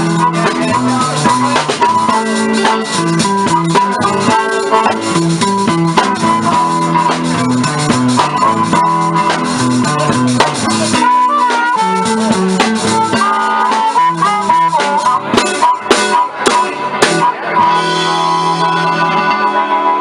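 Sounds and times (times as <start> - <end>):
blues band playing: 0.0 - 20.0
lead guitar with bent notes: 0.0 - 20.0.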